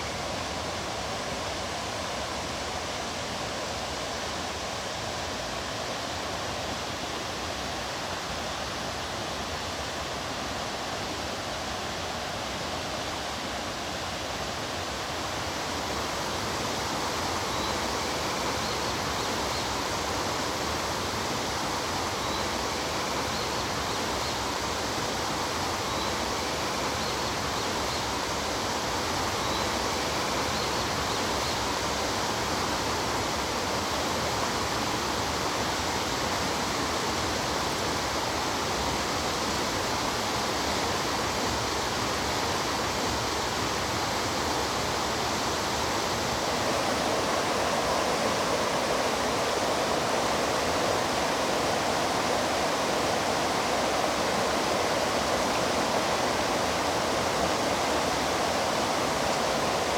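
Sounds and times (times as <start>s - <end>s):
mountain stream flowing: 0.0s - 59.9s.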